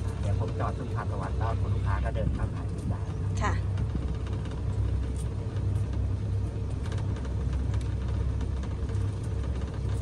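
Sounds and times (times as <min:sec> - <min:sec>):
passenger cart rumbling: 0:00.0 - 0:10.0.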